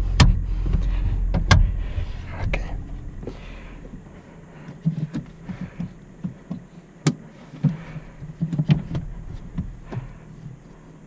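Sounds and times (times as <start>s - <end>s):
knocks and clicks in car cabin: 0.0s - 4.0s, 4.6s - 10.7s
car engine idling: 0.0s - 11.0s.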